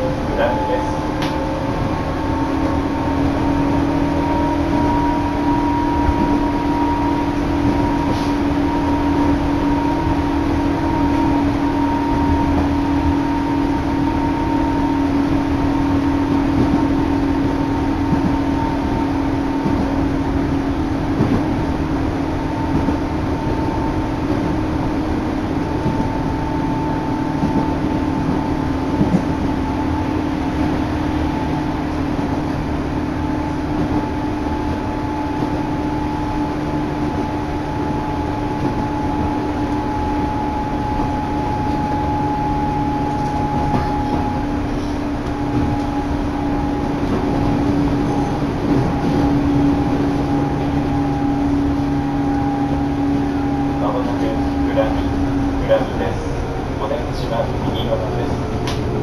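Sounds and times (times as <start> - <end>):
train rumble and rail noise: 0.0 - 59.0.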